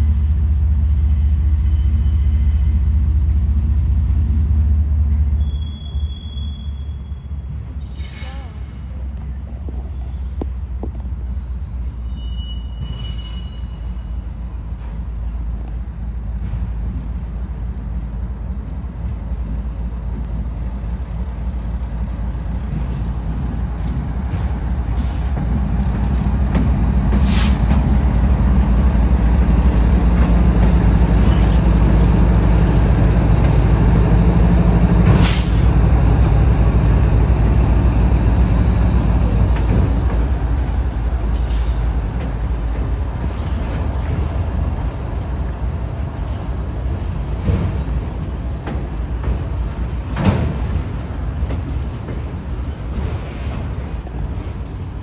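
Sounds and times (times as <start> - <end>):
diesel locomotive engine rumble: 0.0 - 55.0
train clanks: 0.0 - 55.0.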